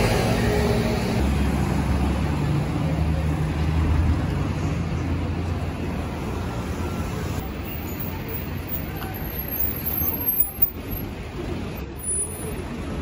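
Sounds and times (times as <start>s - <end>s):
car engines rumbling: 0.0s - 13.0s
cars passing: 0.0s - 13.0s.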